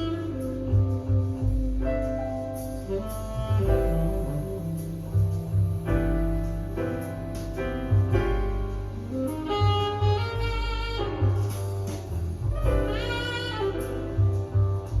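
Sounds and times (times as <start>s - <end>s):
low bass line: 0.0s - 15.0s
piano chords: 0.0s - 15.0s.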